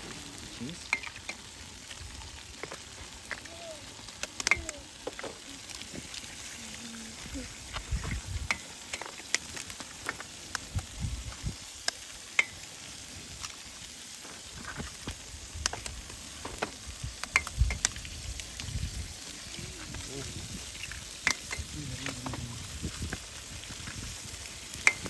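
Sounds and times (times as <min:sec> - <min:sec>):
fire pops and crackles: 0:00.0 - 0:25.0
food sizzling in a pan: 0:00.0 - 0:25.0.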